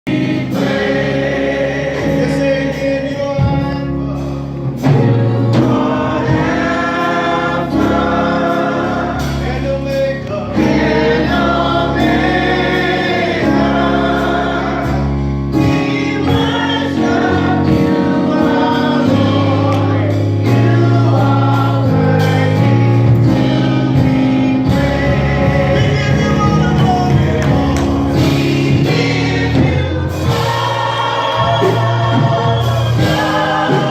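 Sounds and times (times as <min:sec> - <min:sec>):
church choir singing gospel: 0:00.0 - 0:33.9.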